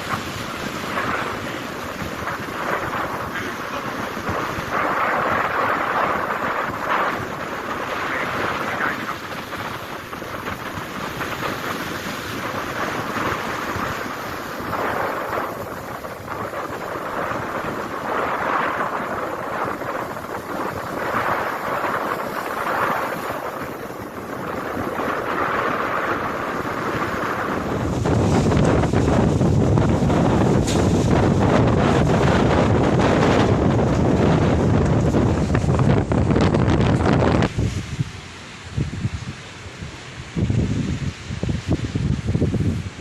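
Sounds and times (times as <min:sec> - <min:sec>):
rough sea waves: 0:00.0 - 0:43.0
wind gusting on microphone: 0:00.0 - 0:43.0.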